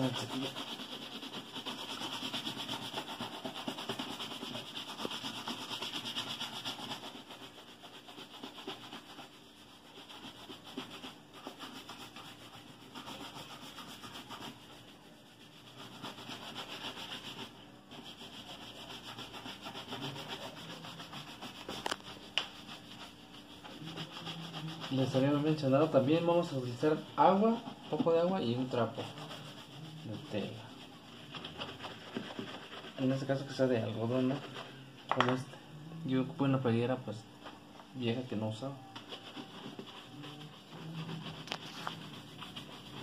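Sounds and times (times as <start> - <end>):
brush scrubbing leather boot: 0.0 - 34.7, 38.8 - 43.0.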